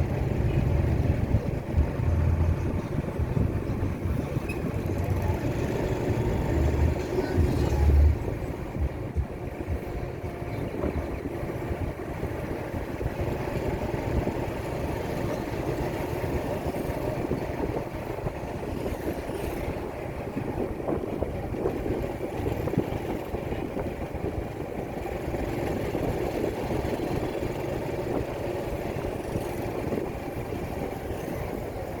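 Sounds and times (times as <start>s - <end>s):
road noise: 0.0s - 32.0s.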